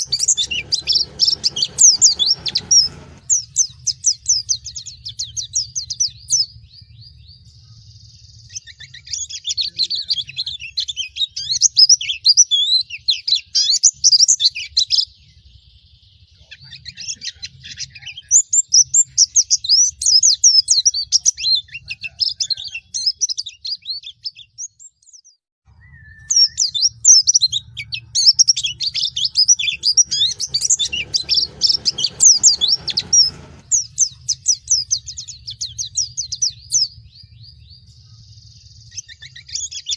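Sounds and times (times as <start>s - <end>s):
bird singing rapid high chirps: 0.0s - 21.9s, 23.0s - 39.9s.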